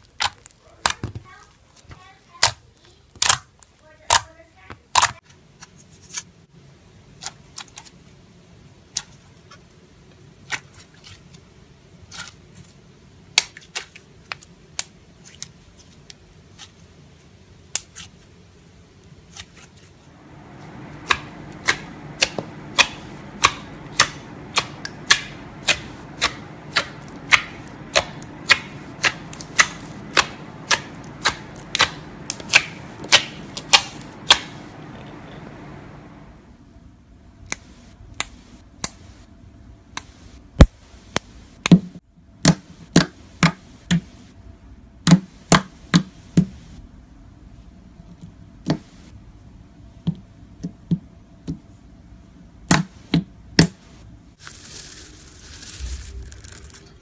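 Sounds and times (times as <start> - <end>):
low steady background noise: 0.0 - 57.0.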